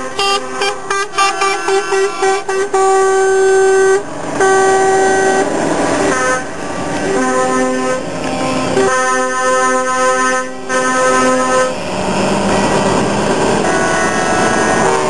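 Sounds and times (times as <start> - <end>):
rushing noise: 0.0 - 15.0
truck horn blasts: 0.0 - 15.0.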